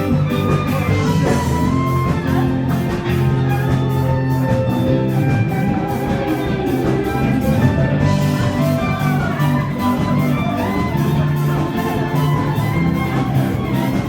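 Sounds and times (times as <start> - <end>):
drum beat: 0.0 - 14.0
guitar: 0.0 - 14.0.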